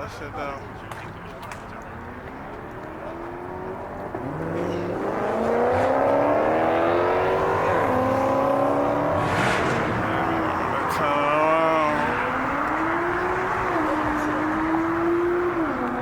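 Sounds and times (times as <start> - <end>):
car engine revving: 2.6 - 16.0.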